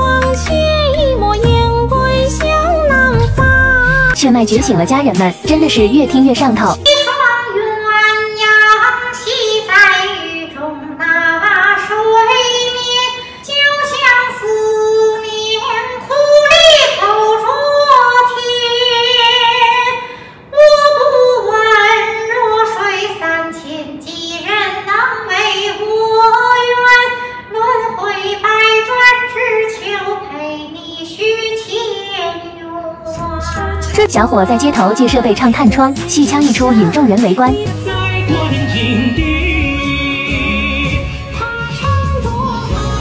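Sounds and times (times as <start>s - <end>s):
woman singing opera-style: 0.0s - 40.0s.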